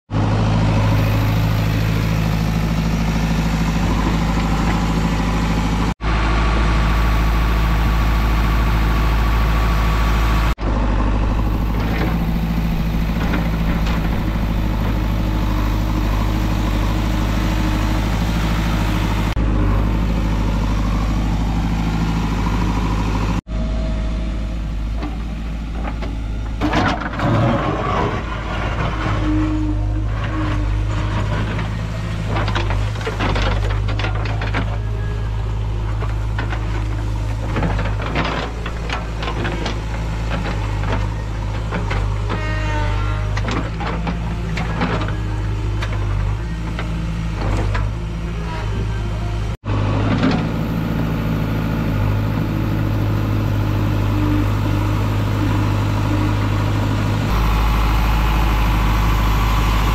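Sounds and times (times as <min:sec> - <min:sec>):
diesel engine running: 0:00.1 - 0:59.9.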